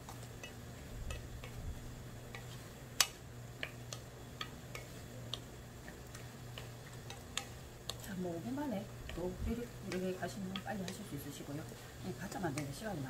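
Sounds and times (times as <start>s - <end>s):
sizzling clicks in a frying pan: 0.0s - 13.0s
steady low hum: 0.0s - 13.0s
wooden spatula stirring: 0.0s - 13.0s.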